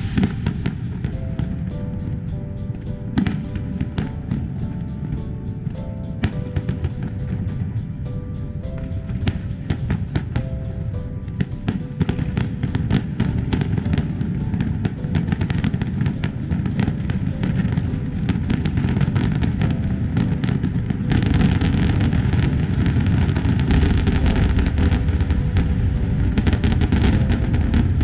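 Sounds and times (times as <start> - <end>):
fireworks bangs and crackling: 0.0 - 28.0
music playing: 0.0 - 28.0.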